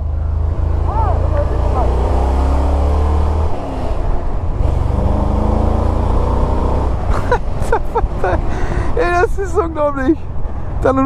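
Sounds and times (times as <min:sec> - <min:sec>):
car engine pulling: 0:00.0 - 0:11.0.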